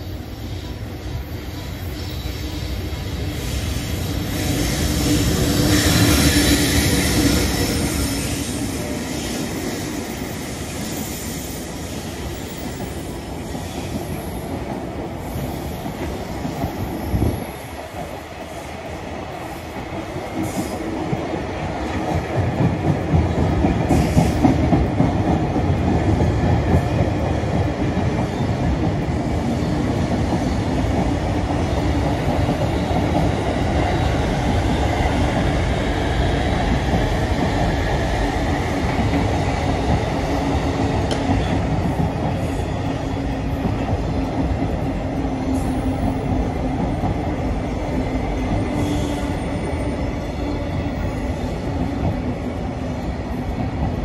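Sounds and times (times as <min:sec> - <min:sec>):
electric locomotive passing: 0:00.0 - 0:54.0.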